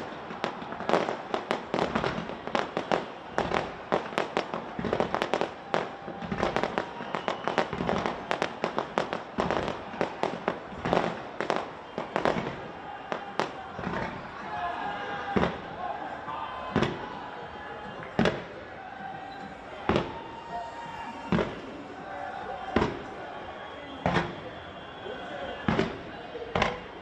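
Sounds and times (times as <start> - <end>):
fireworks bangs and crackles: 0.0 - 14.5, 15.3 - 15.8, 16.7 - 27.0.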